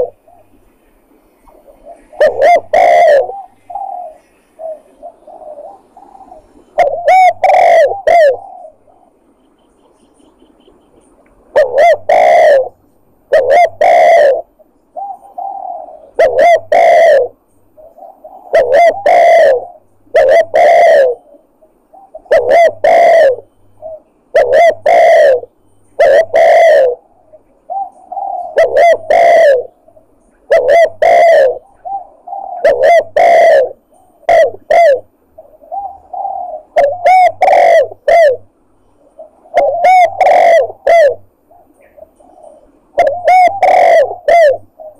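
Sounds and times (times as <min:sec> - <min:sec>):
recorded dove cooing: 0:00.0 - 0:44.9.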